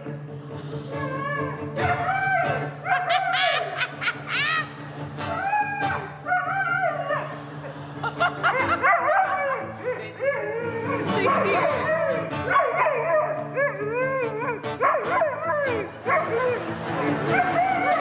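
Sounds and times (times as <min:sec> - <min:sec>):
guitar chords: 0:00.0 - 0:18.0
dog howling: 0:01.0 - 0:04.6, 0:05.3 - 0:07.4, 0:08.4 - 0:18.0.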